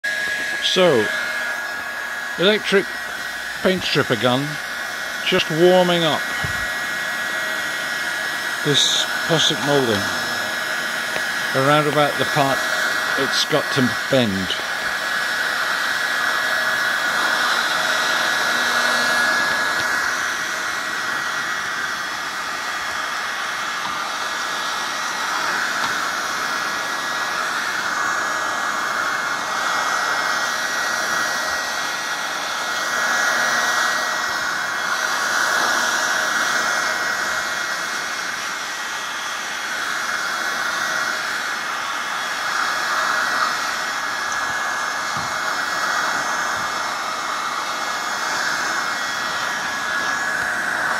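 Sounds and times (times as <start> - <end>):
heat gun fan whine: 0.0 - 50.9.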